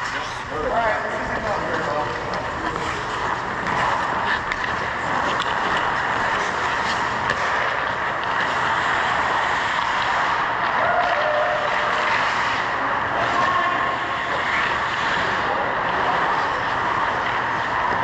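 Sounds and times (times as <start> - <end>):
steady rushing noise: 0.0 - 18.0
sticks and puck clicking on ice: 0.0 - 18.0.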